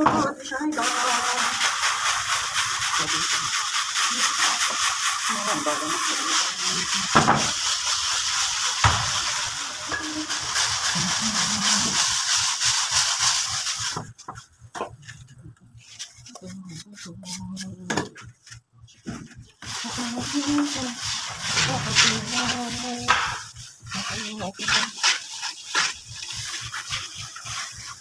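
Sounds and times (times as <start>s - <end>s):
plastering tool scraping render: 0.0s - 14.3s, 19.6s - 28.0s.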